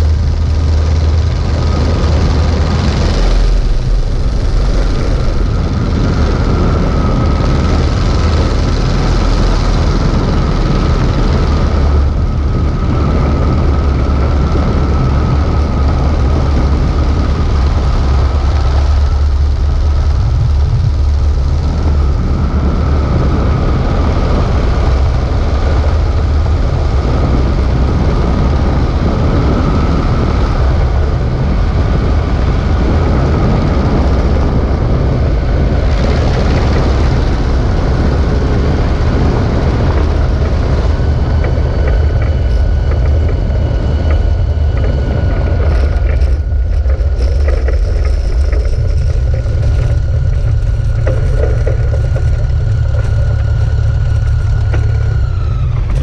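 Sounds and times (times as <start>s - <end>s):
airplane engine: 0.0s - 56.0s
wheels rattling over ground: 0.0s - 56.0s
wind rumble on microphone: 0.0s - 56.0s.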